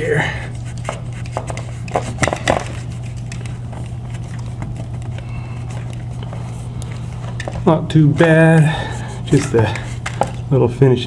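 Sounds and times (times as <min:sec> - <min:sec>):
steady low hum: 0:00.0 - 0:11.0
cloth rubbing on plastic: 0:00.5 - 0:11.0.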